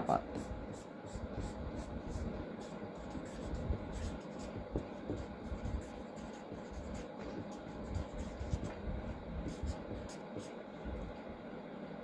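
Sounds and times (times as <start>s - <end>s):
marker scratching on paper: 0.0s - 11.2s.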